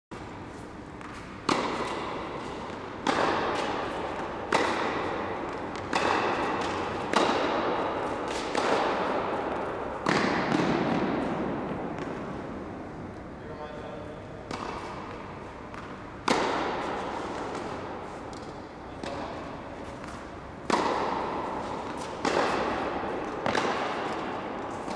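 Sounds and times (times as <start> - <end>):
tennis balls struck with rackets: 0.2 - 13.2, 14.3 - 24.9.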